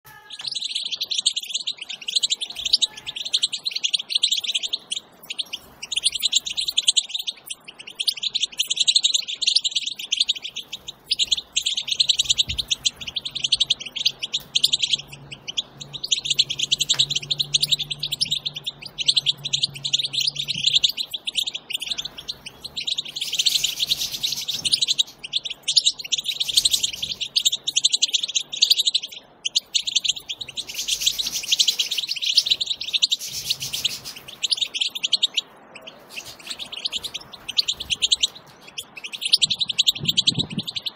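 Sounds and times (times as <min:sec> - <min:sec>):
finches twittering: 0:00.1 - 0:40.9.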